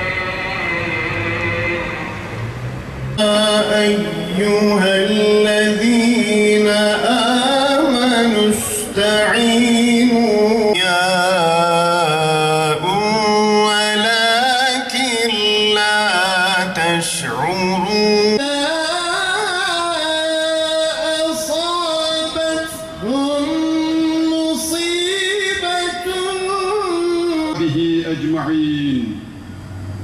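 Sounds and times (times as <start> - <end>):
man chanting religious recitation: 3.2 - 29.4.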